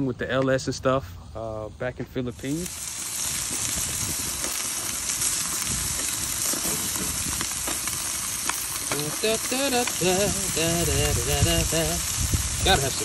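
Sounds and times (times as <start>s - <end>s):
meat sizzling on a grill: 1.3s - 13.0s
crackling pops: 2.0s - 13.0s.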